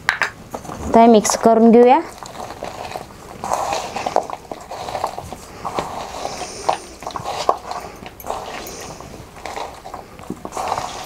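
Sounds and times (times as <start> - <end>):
hands wet squishing: 2.1 - 11.0.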